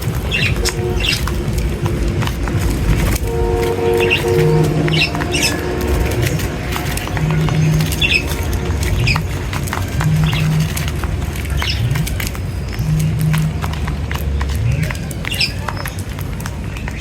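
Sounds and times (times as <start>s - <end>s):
low hum: 0.0s - 15.4s
small birds chirping: 0.0s - 17.0s
steady low rumble: 0.0s - 17.0s
wing flutters: 0.0s - 17.0s.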